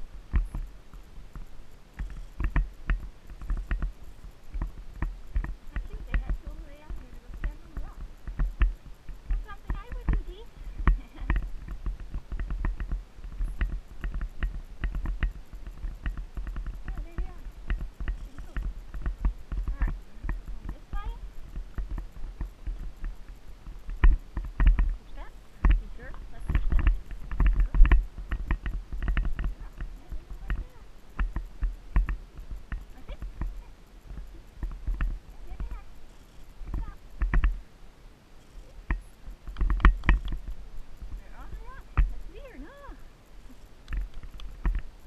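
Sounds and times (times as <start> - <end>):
horse hooves on dirt trail: 0.0 - 45.0
wind rumble on microphone: 0.0 - 45.0.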